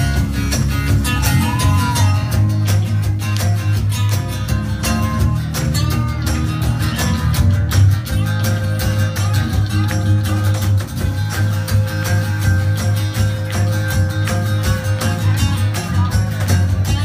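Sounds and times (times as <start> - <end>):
picked guitar notes: 0.0 - 17.0
strummed acoustic guitar: 0.0 - 17.0.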